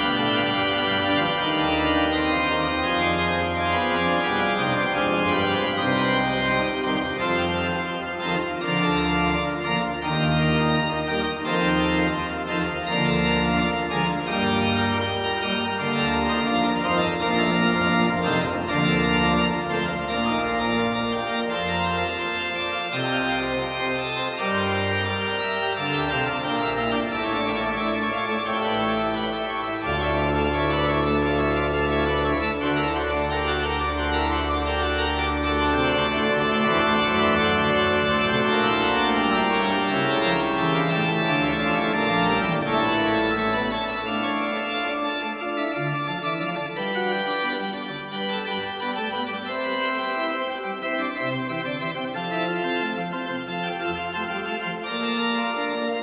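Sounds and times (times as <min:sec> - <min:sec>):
slow organ-like chords: 0:00.0 - 0:56.0.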